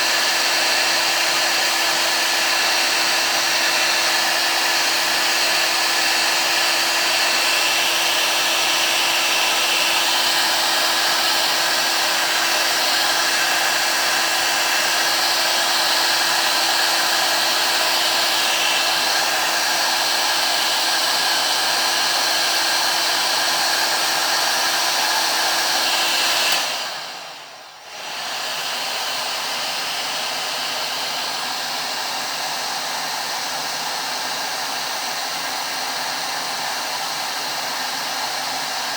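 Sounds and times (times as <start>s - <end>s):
hot air gun blowing: 0.0s - 32.9s.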